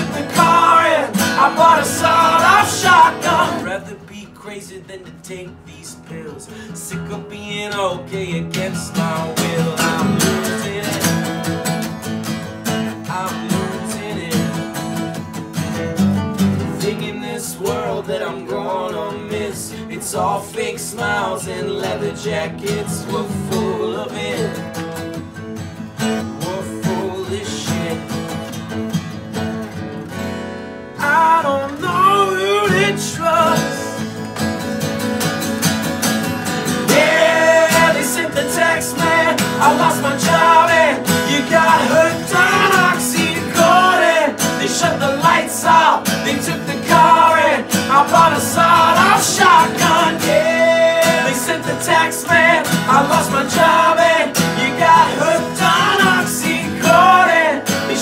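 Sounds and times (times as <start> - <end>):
man singing: 0.0 - 11.4, 13.0 - 14.9, 16.7 - 24.7, 26.4 - 28.4, 31.0 - 34.1, 36.8 - 58.0
acoustic guitars strummed: 0.0 - 58.0.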